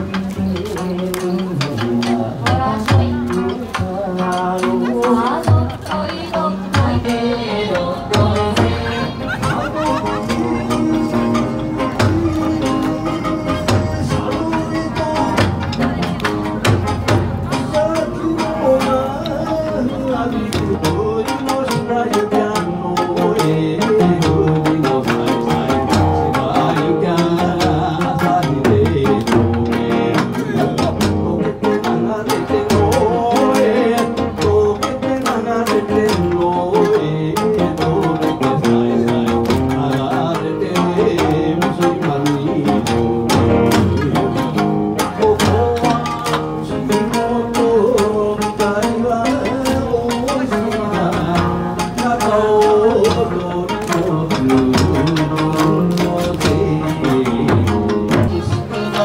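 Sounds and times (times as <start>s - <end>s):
fast drum beat: 0.0s - 59.0s
shamisen: 0.0s - 59.0s.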